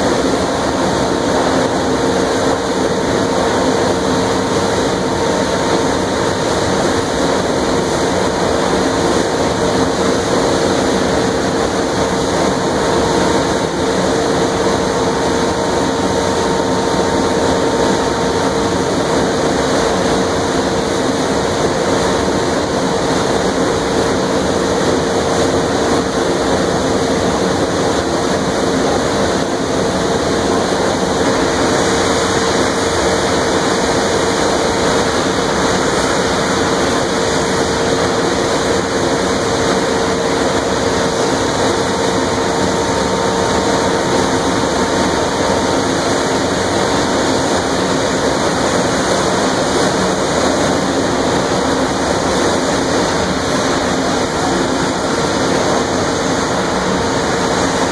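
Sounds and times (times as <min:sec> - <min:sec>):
industrial mill roar: 0:00.0 - 0:57.9
mid-pitched hum: 0:00.0 - 0:57.9.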